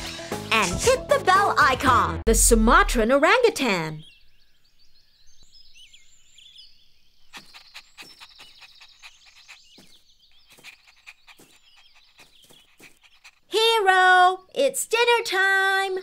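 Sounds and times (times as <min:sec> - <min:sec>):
small birds chirping: 0:03.0 - 0:16.0.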